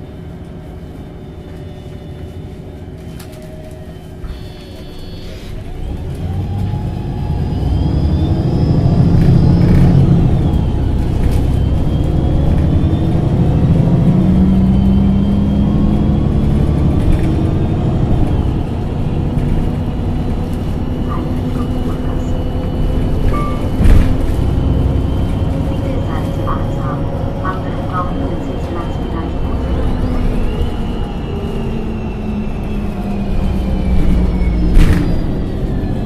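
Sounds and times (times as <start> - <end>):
bus engine accelerating: 0.0 - 36.0.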